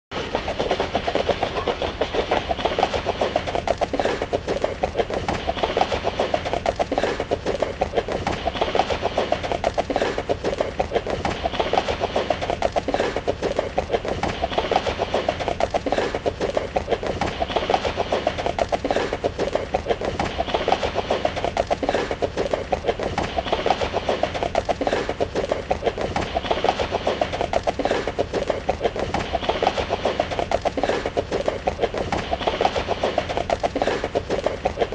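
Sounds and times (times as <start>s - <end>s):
horse hooves galloping: 0.1s - 34.9s.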